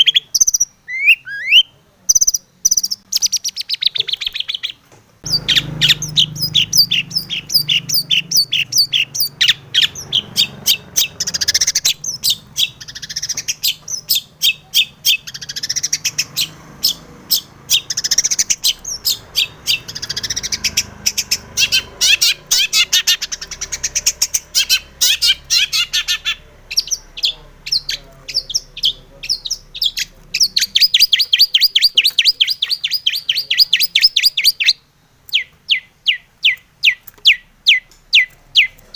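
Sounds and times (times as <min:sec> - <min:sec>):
shrike singing chirps and trills: 0:00.0 - 0:38.9.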